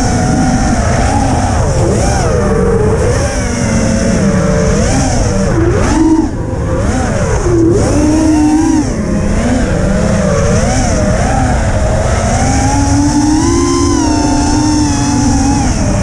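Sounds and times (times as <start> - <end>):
drone motors whining: 0.0 - 16.0
wind rush on microphone: 0.0 - 16.0.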